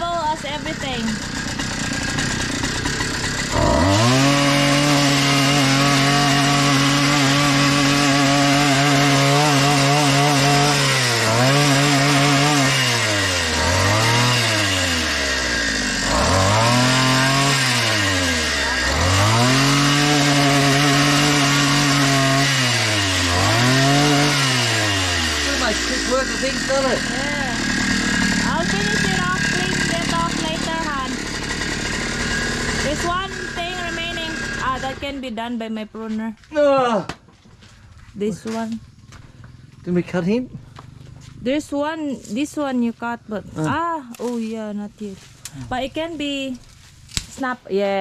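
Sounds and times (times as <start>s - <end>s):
two-stroke pole saw engine revving: 0.0s - 35.6s, 40.7s - 48.0s.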